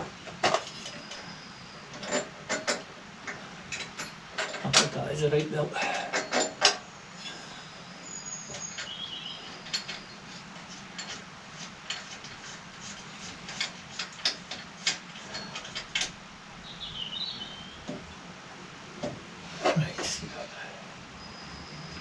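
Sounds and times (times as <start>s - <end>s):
faint steady low hum: 0.0s - 22.0s.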